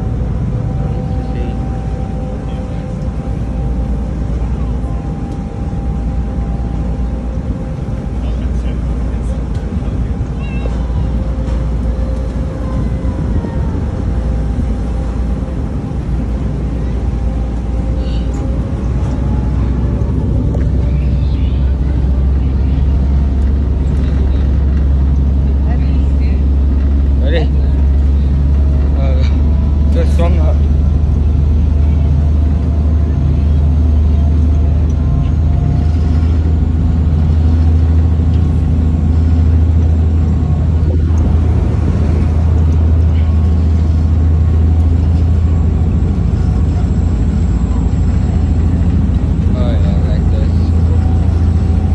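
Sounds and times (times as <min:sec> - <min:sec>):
ferry engine rumble: 0:00.0 - 0:51.9
water rushing: 0:00.0 - 0:51.9.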